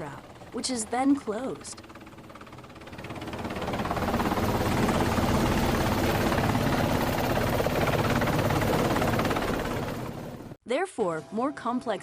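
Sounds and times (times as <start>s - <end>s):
helicopter rotor chopping: 0.0s - 10.6s
turbine whine: 0.0s - 10.6s.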